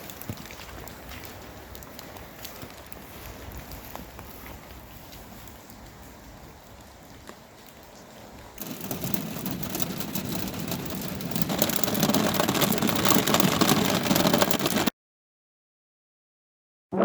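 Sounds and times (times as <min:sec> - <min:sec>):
heavy rain on a surface: 0:00.0 - 0:14.9.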